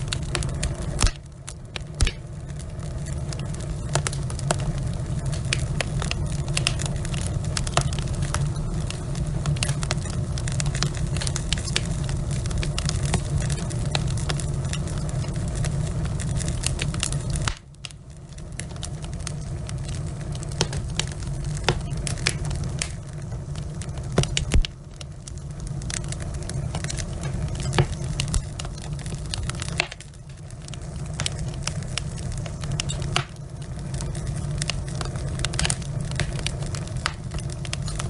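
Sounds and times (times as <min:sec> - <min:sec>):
logs crackling and popping: 0:00.0 - 0:38.0
low rush of flame: 0:00.0 - 0:38.0.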